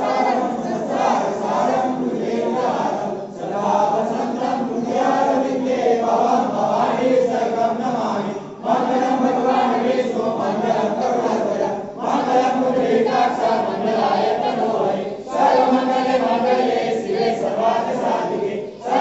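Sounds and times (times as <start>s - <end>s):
group singing a hymn: 0.0s - 19.0s.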